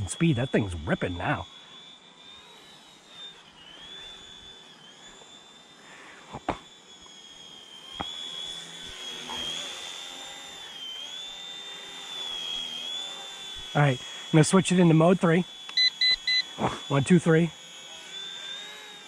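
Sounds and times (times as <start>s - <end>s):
rc helicopter motor whining: 0.0s - 19.0s.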